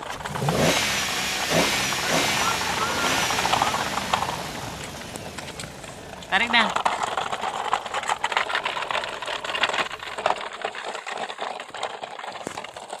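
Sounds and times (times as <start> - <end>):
plastic toy trucks rattling: 0.0 - 0.7, 1.9 - 13.0.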